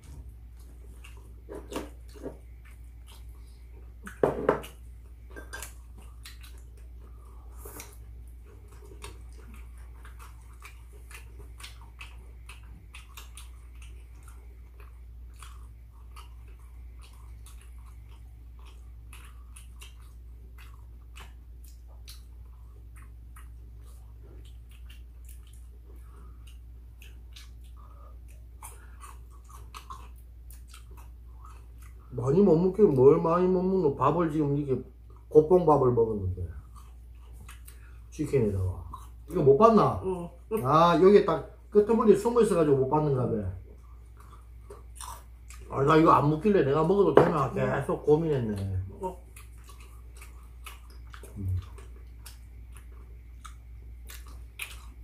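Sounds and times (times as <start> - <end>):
chewing with mouth smacks: 0.0 - 32.2, 36.5 - 39.5, 43.6 - 46.0, 48.4 - 55.0
low steady hum: 0.0 - 55.0.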